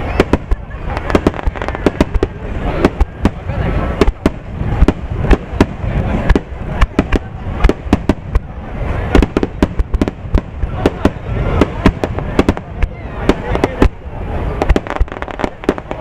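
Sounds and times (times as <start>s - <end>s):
continuous low rumble: 0.0s - 16.0s
fireworks bursting with sharp bangs: 0.0s - 16.0s.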